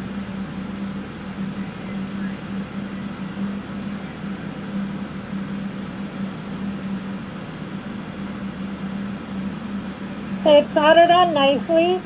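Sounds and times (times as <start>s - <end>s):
electric fans rushing air: 0.0s - 12.0s.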